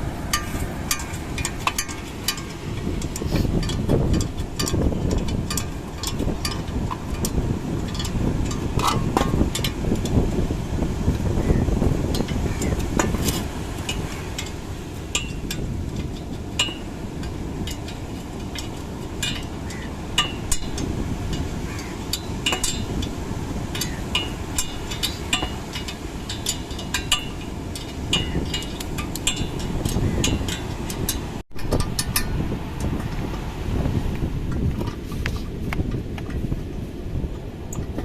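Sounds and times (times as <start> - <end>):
hand tools tapping metal: 0.0 - 10.2, 11.5 - 33.4
wind and surf rumble: 0.0 - 38.0.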